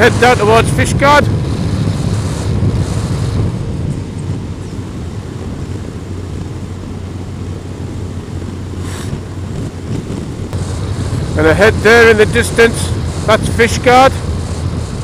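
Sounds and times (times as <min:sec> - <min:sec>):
wind rushing over microphone: 0:00.0 - 0:15.0
motorcycle engine running: 0:01.3 - 0:15.0.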